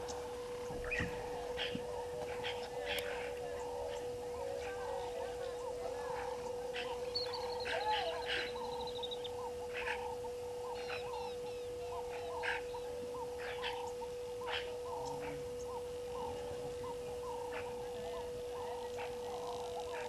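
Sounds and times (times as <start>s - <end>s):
birds chirping: 0.0s - 20.0s
frogs croaking: 0.0s - 20.0s
steady hum: 0.0s - 20.0s.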